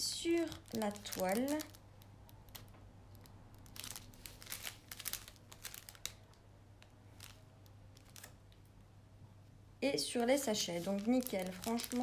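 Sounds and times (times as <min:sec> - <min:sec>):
plastic packaging crinkling: 0:00.0 - 0:08.6, 0:10.0 - 0:12.0.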